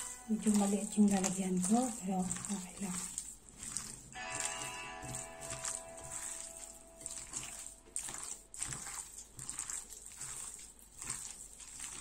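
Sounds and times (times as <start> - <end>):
wet squelches of raw chicken: 0.0 - 12.0.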